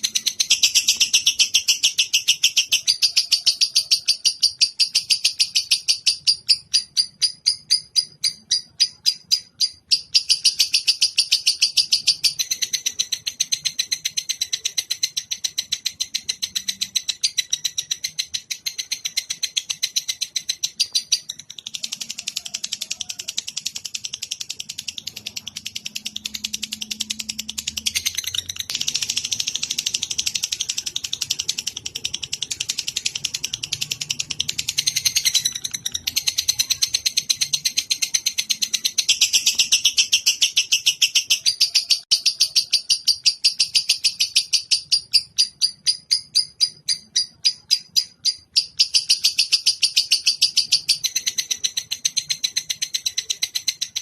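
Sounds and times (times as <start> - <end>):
songbird chattering trill: 0.0 - 54.0.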